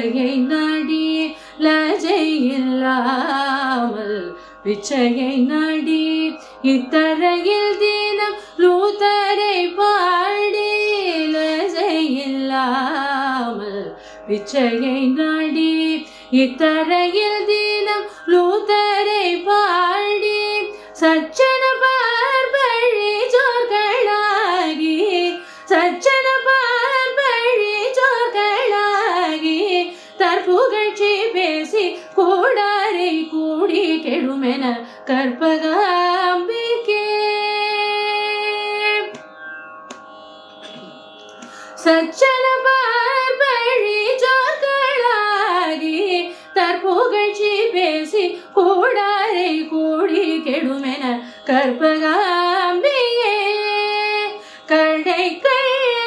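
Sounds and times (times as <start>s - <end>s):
woman singing devotional song: 0.0s - 39.2s, 40.6s - 56.0s.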